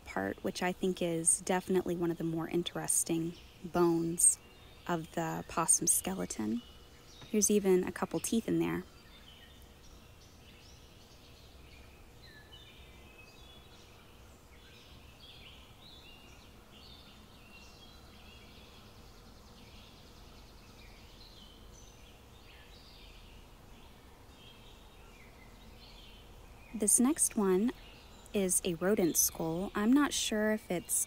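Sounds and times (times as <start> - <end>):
birds chirping: 0.0 - 31.0
faint steady hum: 0.0 - 31.0.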